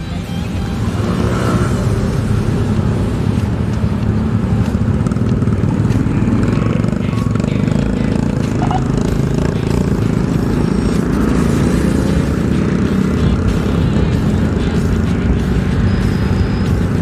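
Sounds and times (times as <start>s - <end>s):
road noise: 0.0s - 17.0s
traffic: 0.0s - 17.0s.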